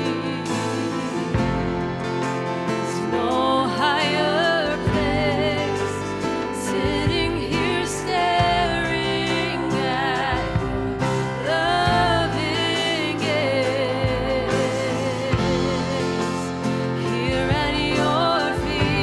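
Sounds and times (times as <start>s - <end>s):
person singing with vibrato: 0.0s - 1.8s, 2.7s - 19.0s
sustained instrumental chords: 0.0s - 19.0s.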